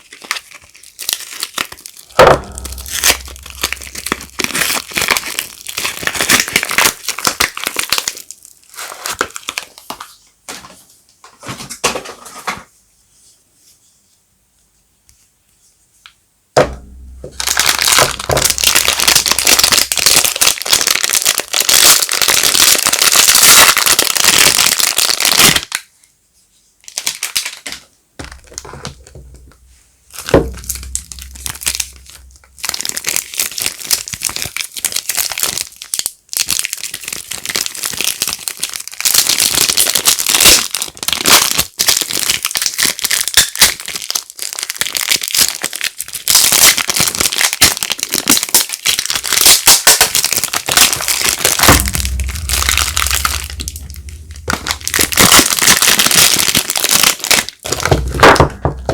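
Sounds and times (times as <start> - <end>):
soap wrapper crinkling: 0.0 - 10.6, 17.3 - 25.8, 26.8 - 29.1, 30.2 - 58.9.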